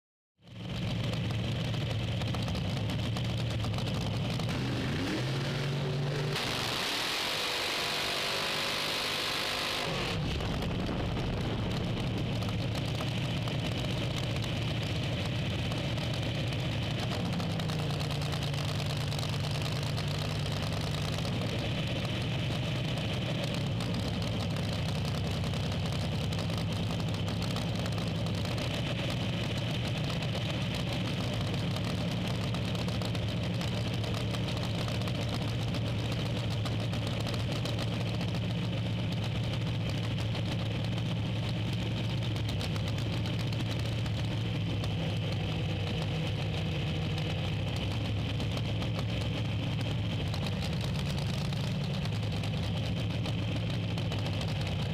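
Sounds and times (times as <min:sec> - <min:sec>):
race car engine idling: 0:00.5 - 0:04.6, 0:10.2 - 0:54.9.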